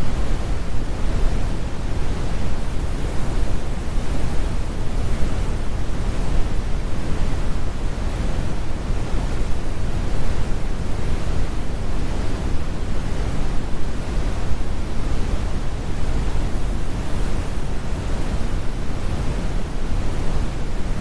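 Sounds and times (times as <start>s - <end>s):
deep brown noise rumble: 0.0s - 21.0s.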